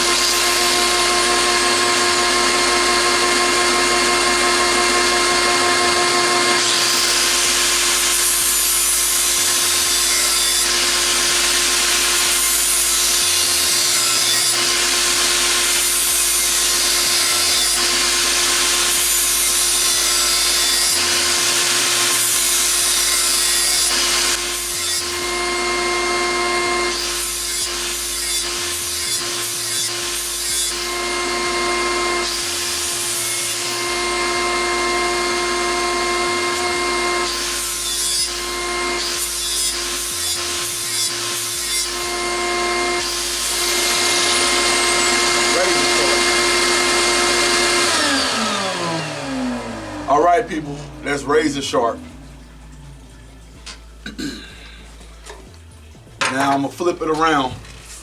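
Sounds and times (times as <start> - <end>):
shop vac running: 0.0 - 54.0
angle grinder grinding steel: 0.0 - 54.2.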